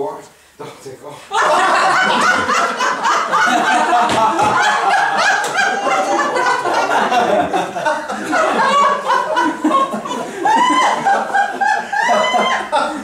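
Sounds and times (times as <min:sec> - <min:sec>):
group of people laughing: 0:01.3 - 0:13.0.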